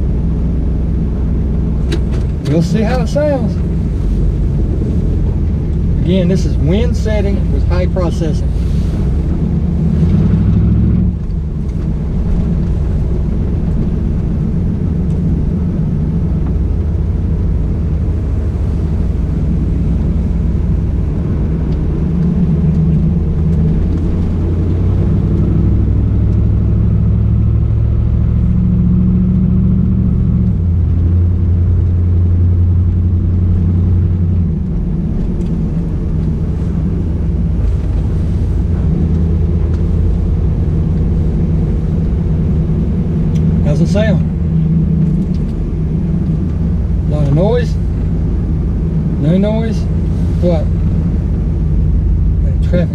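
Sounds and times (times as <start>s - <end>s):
car engine drone: 0.0s - 52.9s
road noise: 0.0s - 52.9s.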